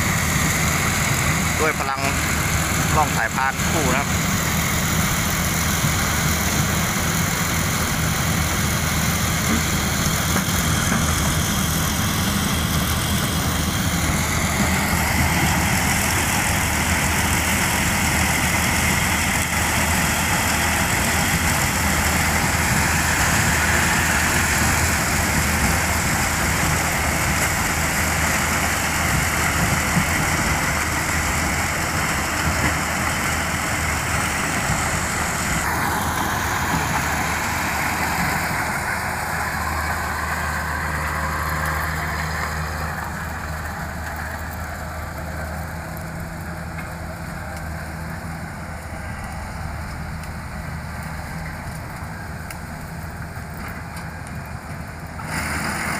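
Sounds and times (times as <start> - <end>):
high mechanical whine: 0.0 - 54.6
combine harvester engine drone: 0.0 - 55.9.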